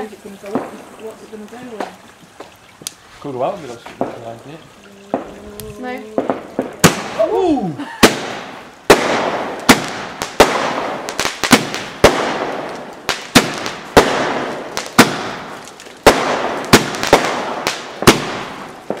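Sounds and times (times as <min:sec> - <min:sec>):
firework bangs: 0:00.0 - 0:02.0, 0:03.8 - 0:04.5, 0:05.1 - 0:19.0.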